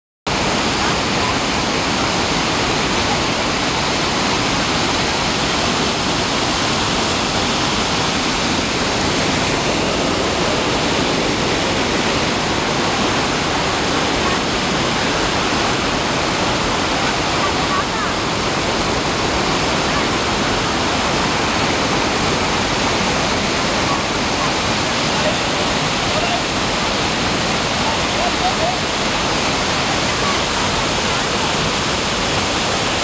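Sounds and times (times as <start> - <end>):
waterfall rushing: 0.3 - 33.0.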